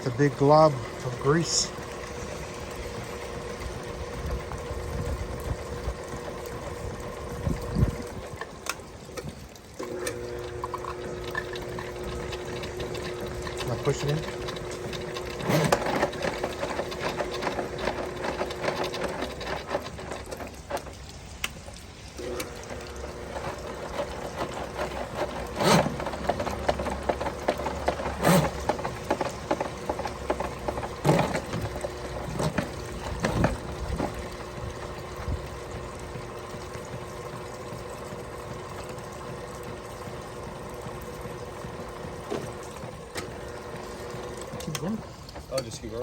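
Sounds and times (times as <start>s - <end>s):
drain-cleaning machine motor hum: 0.0s - 46.0s.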